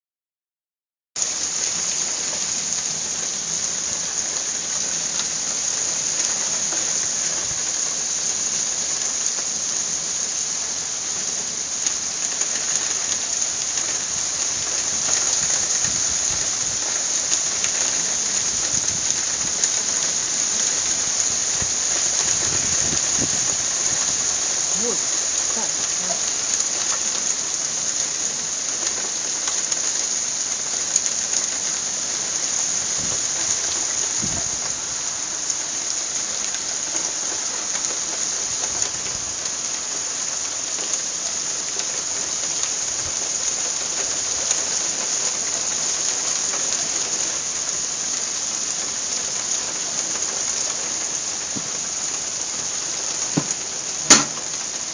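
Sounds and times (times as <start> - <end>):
rain falling: 1.2 - 54.9.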